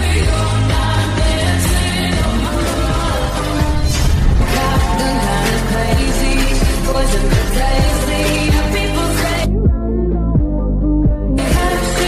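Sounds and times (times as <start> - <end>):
music with deep beat: 0.0 - 12.0.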